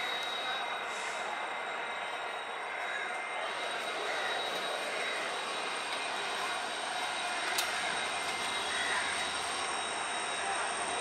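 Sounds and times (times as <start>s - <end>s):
diesel trains droning: 0.0s - 11.0s.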